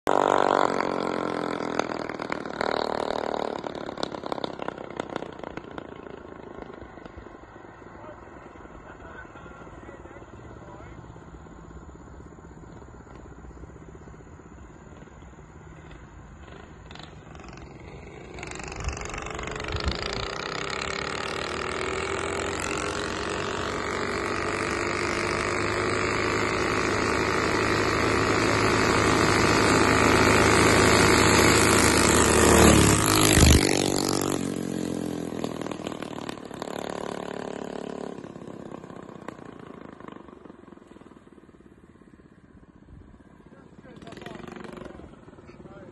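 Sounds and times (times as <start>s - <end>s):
minibike engines passing by: 0.1s - 45.9s.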